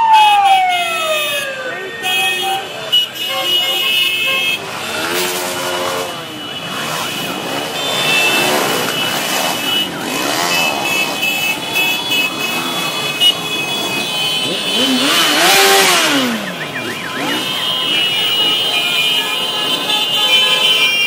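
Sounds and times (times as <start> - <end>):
motorcycles and scooters passing: 0.9 - 20.7.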